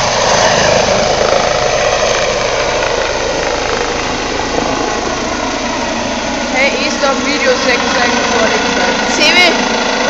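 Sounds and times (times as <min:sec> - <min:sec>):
helicopter turbine and rotor: 0:00.0 - 0:10.0.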